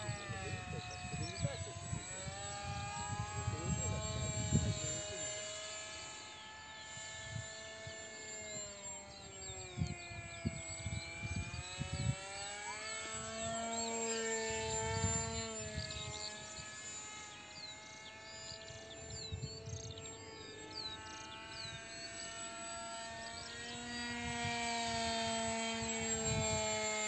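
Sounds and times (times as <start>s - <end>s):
model jet motor whine: 0.0s - 27.0s.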